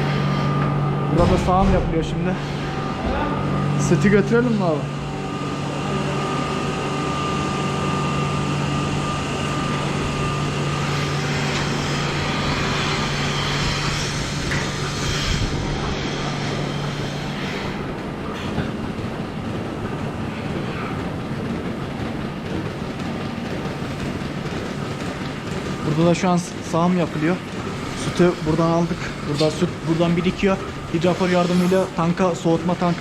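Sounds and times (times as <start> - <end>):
high mechanical whine: 0.0 - 22.6, 23.4 - 33.0
mechanical background noise: 0.0 - 33.0
milking machinery hum: 0.0 - 33.0.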